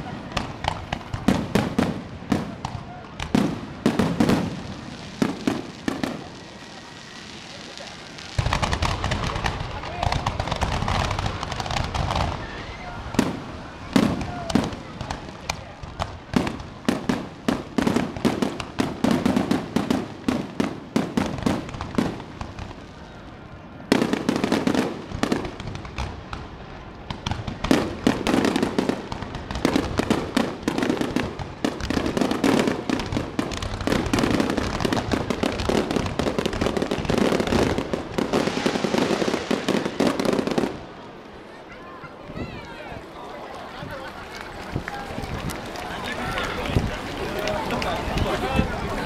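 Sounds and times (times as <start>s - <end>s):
fireworks bangs: 0.0s - 49.0s.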